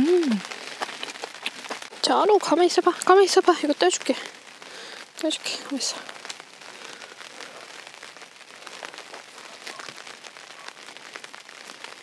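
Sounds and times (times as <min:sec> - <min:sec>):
rain pattering on a tent: 0:00.0 - 0:12.0.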